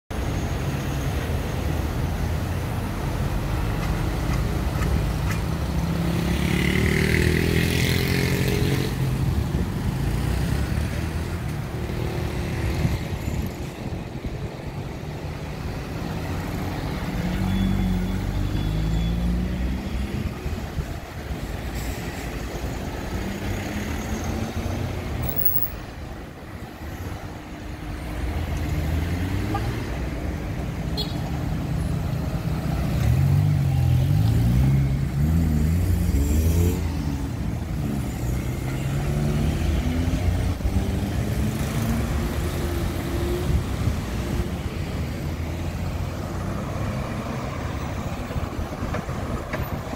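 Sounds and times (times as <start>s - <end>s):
passing cars rumbling: 0.1s - 49.9s.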